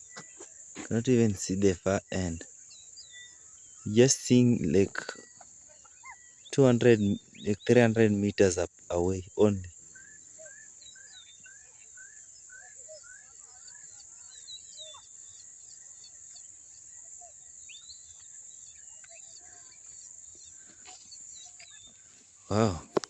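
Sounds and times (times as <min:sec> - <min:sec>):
bird calls: 0:00.0 - 0:23.0
crickets trilling: 0:00.0 - 0:23.0.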